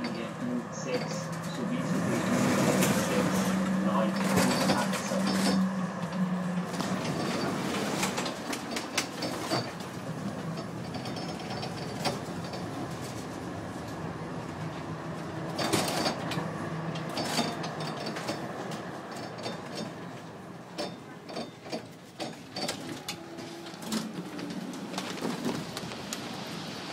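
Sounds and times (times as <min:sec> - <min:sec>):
tram rattling on rails: 0:00.0 - 0:26.9.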